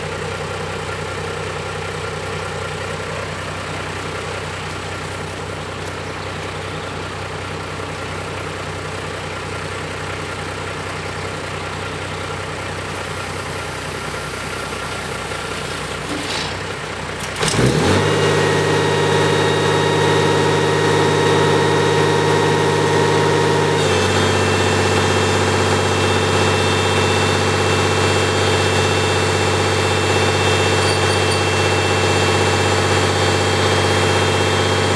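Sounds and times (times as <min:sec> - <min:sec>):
backhoe engine idling and revving: 0:00.0 - 0:34.9.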